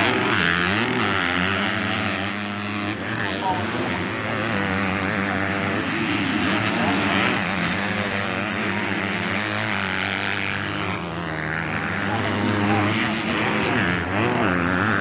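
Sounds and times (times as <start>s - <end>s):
motocross bike engines revving: 0.0s - 15.0s
steady low drone: 0.0s - 15.0s.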